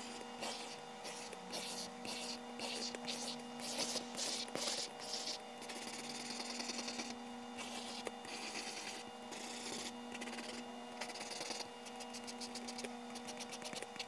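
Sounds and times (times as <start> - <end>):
faint steady hum: 0.0 - 14.0
pencil scratching on paper: 0.0 - 14.0.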